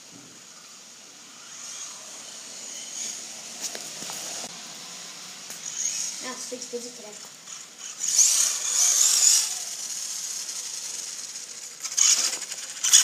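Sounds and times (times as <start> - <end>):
high electric motor whine: 0.0 - 13.0.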